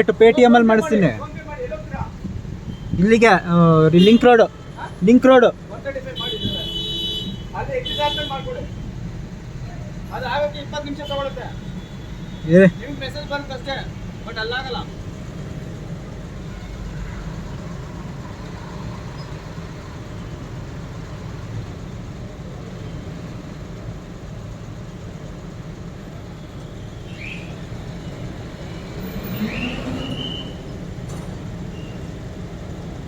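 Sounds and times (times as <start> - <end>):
car interior rumble: 0.0 - 33.0.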